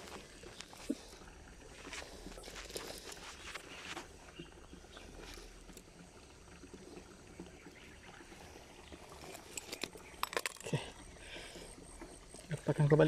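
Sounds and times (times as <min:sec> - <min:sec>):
faint rushing stream: 0:00.0 - 0:13.0.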